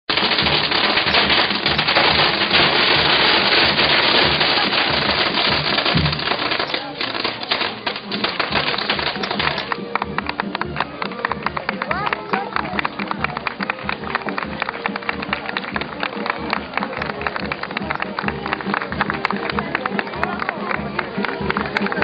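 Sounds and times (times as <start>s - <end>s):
firecrackers crackling: 0.0s - 22.0s.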